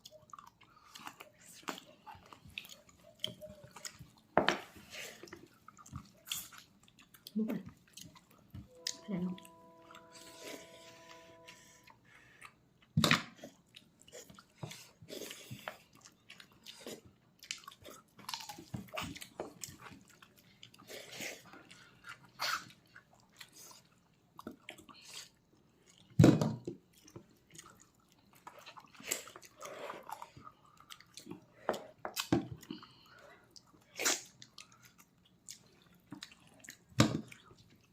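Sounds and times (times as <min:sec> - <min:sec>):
wet chewing and smacking: 0:00.0 - 0:08.8, 0:11.8 - 0:37.9.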